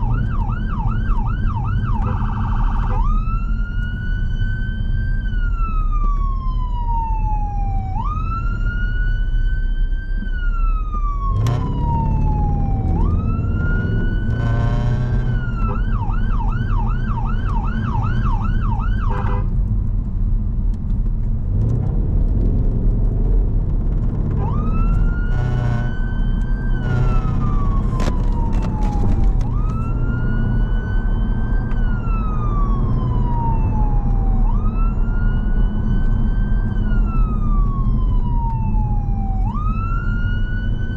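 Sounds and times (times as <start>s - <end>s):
siren wailing and yelping: 0.0s - 9.6s, 10.2s - 19.3s, 24.4s - 40.9s
engine and road noise: 0.0s - 40.9s.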